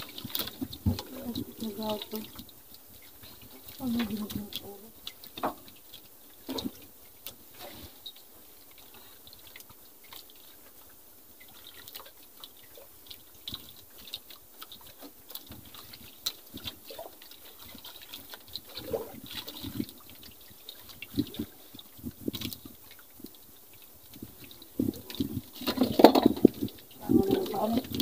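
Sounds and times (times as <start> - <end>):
water lapping against boat hull: 0.0 - 28.0.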